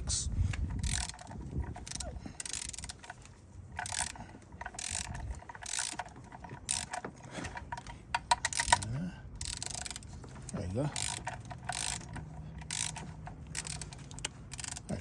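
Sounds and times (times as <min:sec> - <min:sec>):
ratchet wrench clicking: 0:00.5 - 0:15.0.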